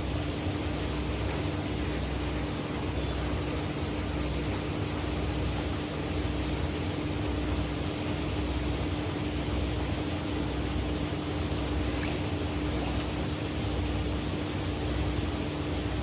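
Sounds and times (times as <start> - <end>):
steady low hum with hiss: 0.0 - 16.0.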